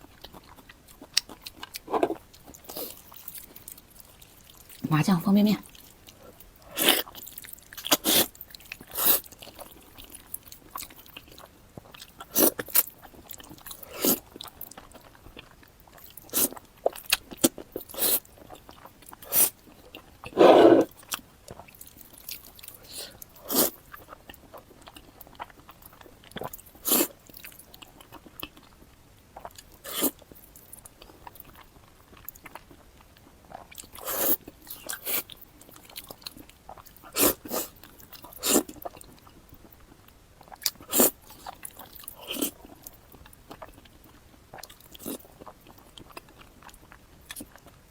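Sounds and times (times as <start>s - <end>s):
wet chewing and smacking: 0.0s - 4.8s, 5.6s - 47.9s.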